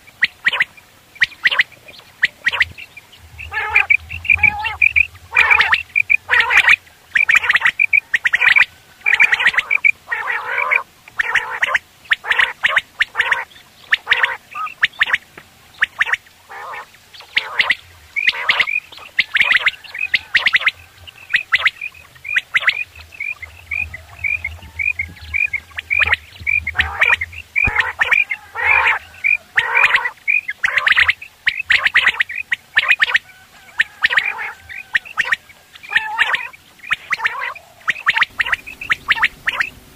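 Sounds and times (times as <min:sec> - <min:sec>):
quail chirping: 0:00.0 - 0:39.9
quail squawking: 0:00.0 - 0:39.9.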